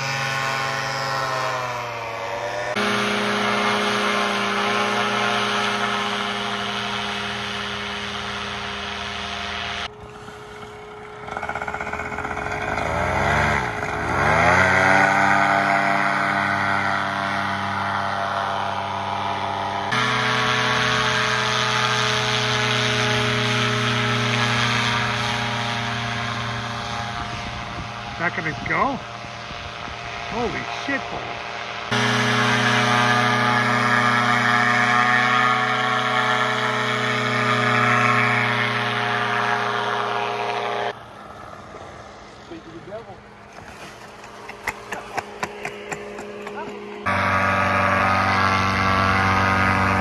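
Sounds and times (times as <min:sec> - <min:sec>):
paramotor engines running: 0:00.0 - 0:50.0.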